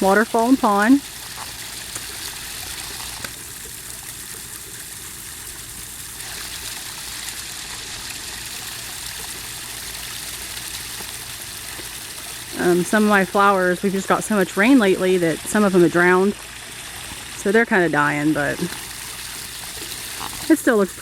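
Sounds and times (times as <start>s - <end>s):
water spilling over rocks: 0.0s - 21.0s.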